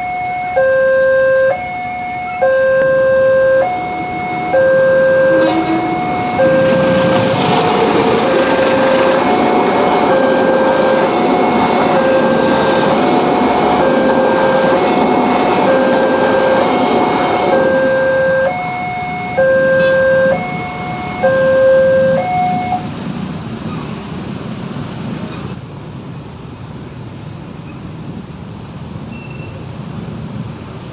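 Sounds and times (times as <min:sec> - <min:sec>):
passing train rumble: 0:00.0 - 0:30.9
road traffic: 0:00.0 - 0:30.9.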